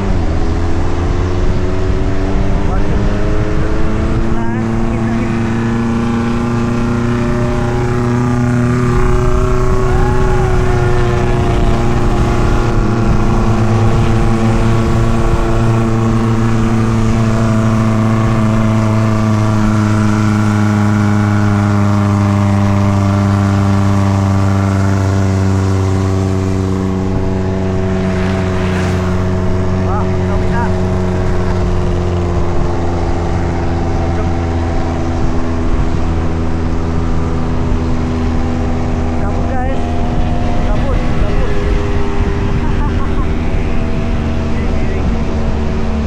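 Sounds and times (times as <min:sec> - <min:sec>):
car engine at high revs: 0:00.0 - 0:46.0.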